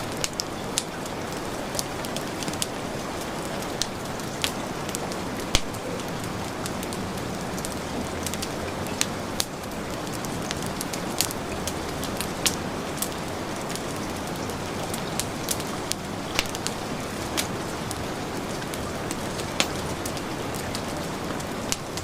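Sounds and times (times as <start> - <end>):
heavy rain: 0.0 - 22.0
wood fire crackling: 0.0 - 22.0.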